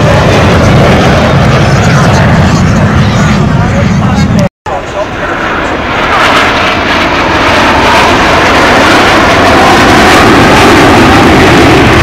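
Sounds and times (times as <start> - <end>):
jet aircraft roaring overhead: 0.0 - 12.0.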